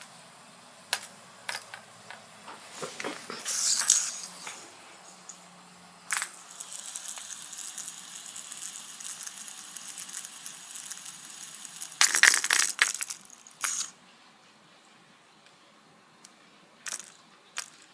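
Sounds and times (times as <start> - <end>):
fidget spinner whirring: 0.0 - 14.0, 16.2 - 17.9.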